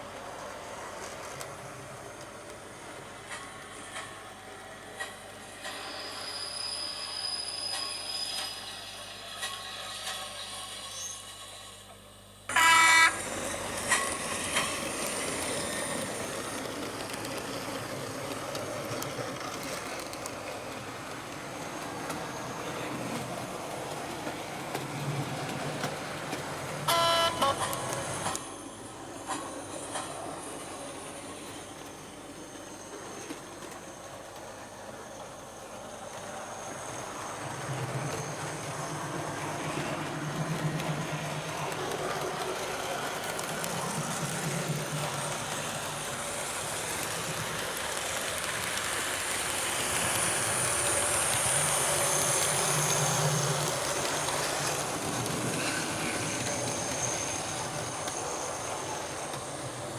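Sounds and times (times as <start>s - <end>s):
model locomotive running sounds: 0.0s - 59.9s.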